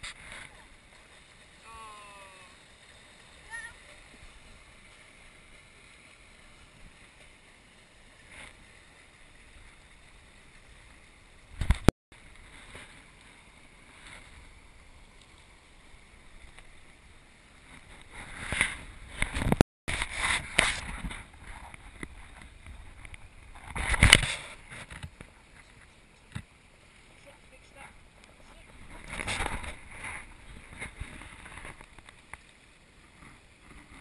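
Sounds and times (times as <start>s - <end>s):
flowing river water: 0.0s - 34.0s.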